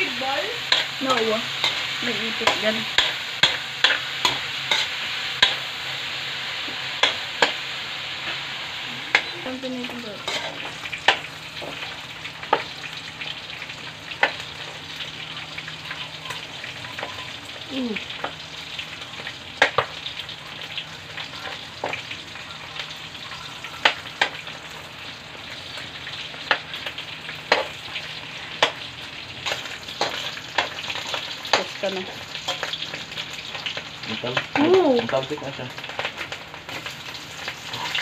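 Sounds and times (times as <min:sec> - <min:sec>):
meat sizzling in oil: 0:00.0 - 0:38.0.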